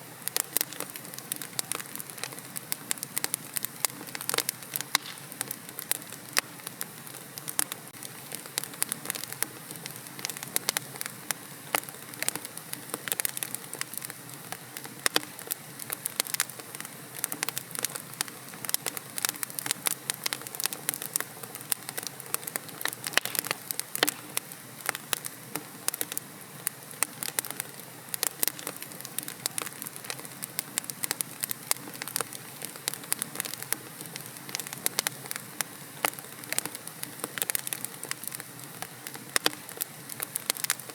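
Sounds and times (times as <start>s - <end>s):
burning logs crackling: 0.0s - 40.9s.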